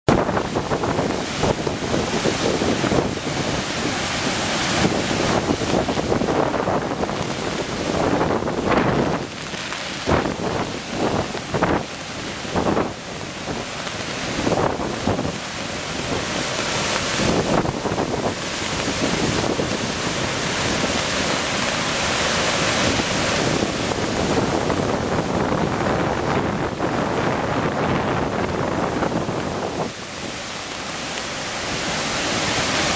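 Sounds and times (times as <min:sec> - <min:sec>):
waterfall rushing: 0:00.1 - 0:32.9
wind buffeting microphone: 0:00.1 - 0:32.9.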